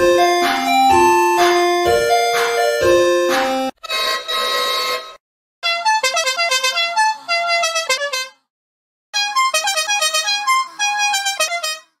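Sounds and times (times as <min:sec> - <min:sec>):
musical bus horn tune: 0:00.0 - 0:08.5, 0:09.2 - 0:12.0.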